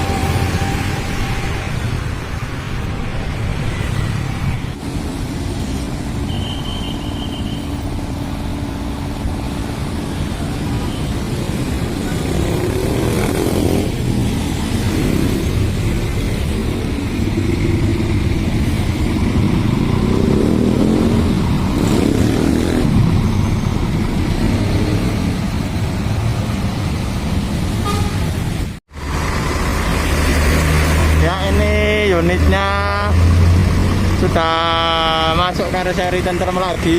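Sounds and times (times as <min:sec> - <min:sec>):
vehicles passing: 0:00.0 - 0:36.9.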